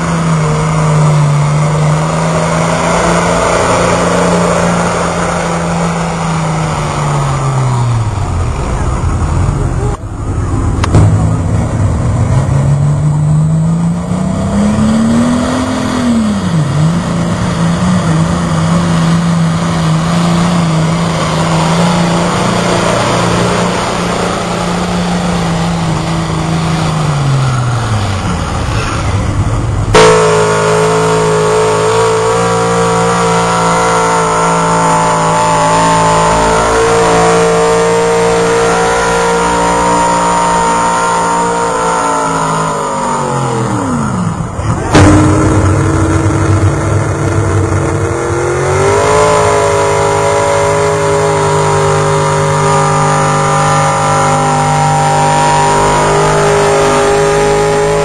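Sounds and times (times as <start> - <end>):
engine running at steady pitch: 0.0 - 58.0
truck engine revving under load: 0.0 - 58.0.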